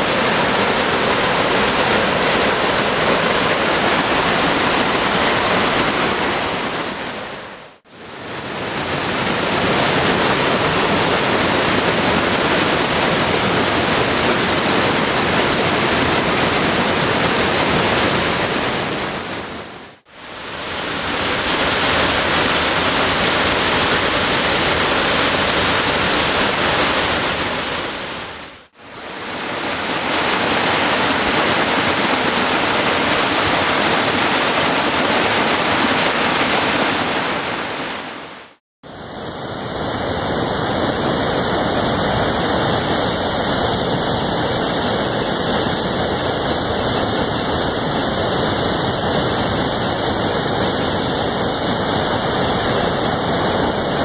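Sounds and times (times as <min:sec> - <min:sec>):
waterfall rushing: 0:00.0 - 0:54.0
whitewater rapids: 0:00.0 - 0:54.0.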